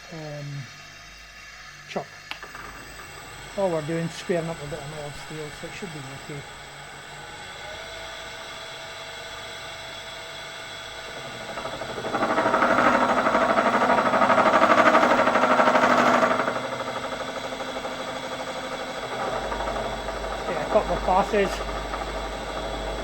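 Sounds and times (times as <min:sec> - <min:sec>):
end mill cutting steel: 0:02.3 - 0:23.0
milling machine running: 0:02.3 - 0:23.0.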